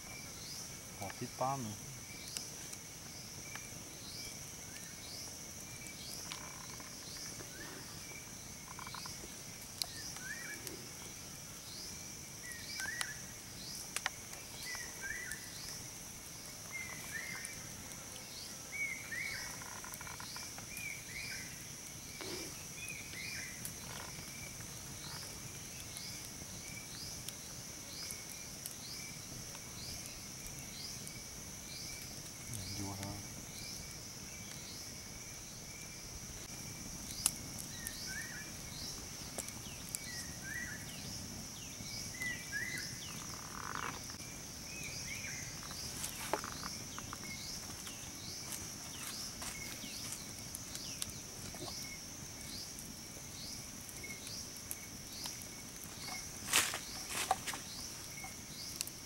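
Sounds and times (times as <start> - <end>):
insects humming: 0.0 - 59.0.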